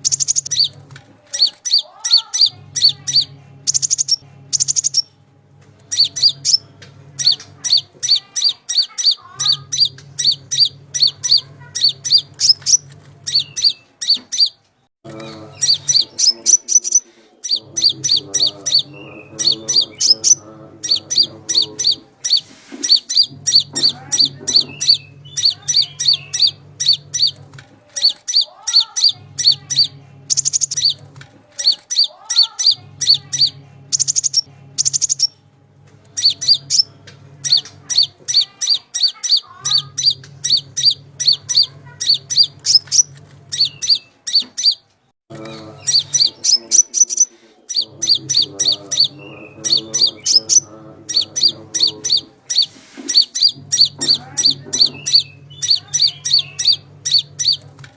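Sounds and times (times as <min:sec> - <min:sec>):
high sharp bird chirps: 0:00.0 - 0:05.1, 0:05.9 - 0:06.6, 0:07.2 - 0:14.6, 0:15.4 - 0:27.4, 0:28.0 - 0:31.0, 0:31.6 - 0:35.4, 0:36.2 - 0:44.8, 0:45.8 - 0:57.6
low steady hum: 0:00.0 - 0:08.6, 0:09.2 - 0:14.0, 0:14.6 - 0:44.2, 0:47.4 - 0:57.9.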